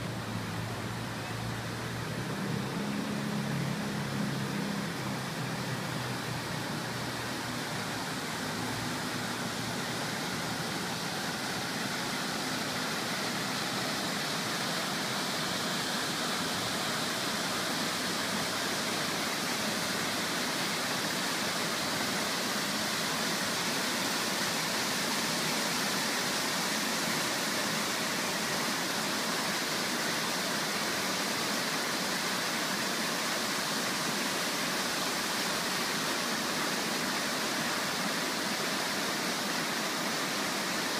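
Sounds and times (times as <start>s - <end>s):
fountain water splashing: 0.0s - 40.9s.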